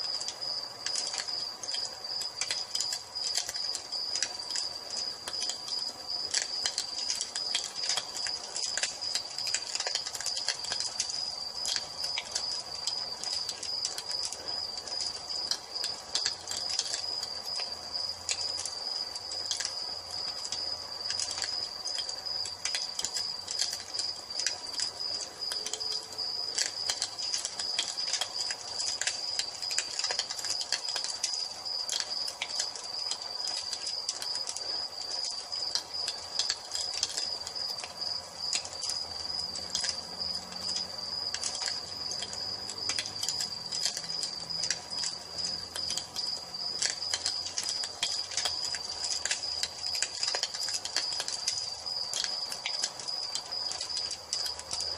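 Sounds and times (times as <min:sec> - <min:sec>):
crickets trilling: 0:00.0 - 0:54.9
wood fire crackling and popping: 0:00.0 - 0:54.9.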